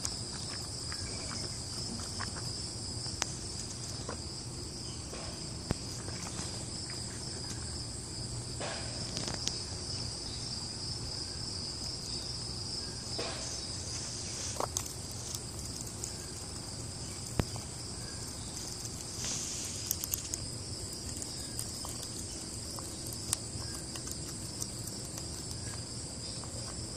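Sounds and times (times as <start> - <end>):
insects trilling: 0.0 - 26.9.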